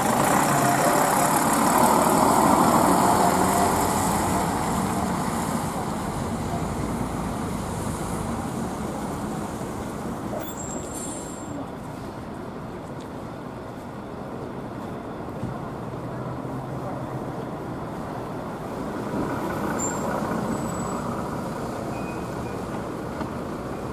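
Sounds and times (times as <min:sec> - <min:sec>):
diesel bus driving off: 0:00.0 - 0:23.9.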